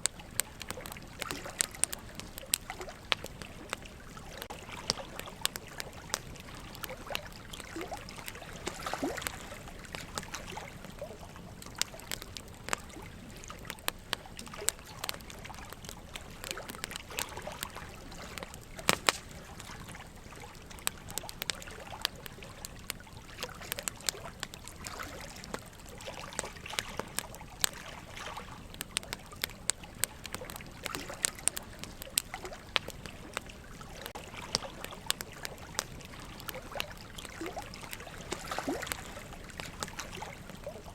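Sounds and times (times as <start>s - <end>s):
logs crackling and popping: 0.0s - 40.9s
running water trickling: 0.0s - 40.9s.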